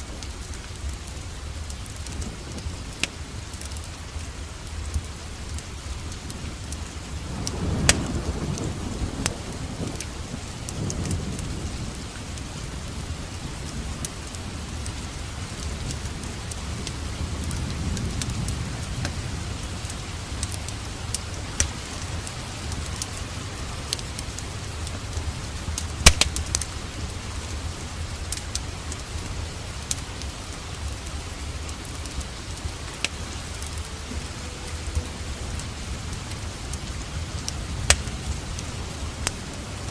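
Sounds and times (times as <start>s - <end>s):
low rumble of thunder: 0.0s - 39.9s
steady rain: 0.0s - 39.9s
wood fire crackling and popping: 0.0s - 39.9s.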